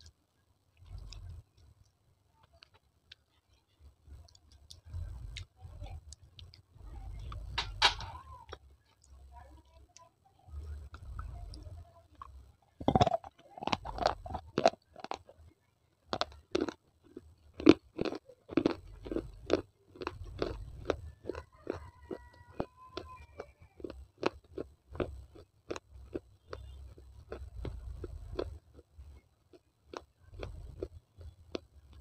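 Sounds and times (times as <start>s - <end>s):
teeth crunching baked clay: 0.8s - 10.1s, 10.7s - 32.0s.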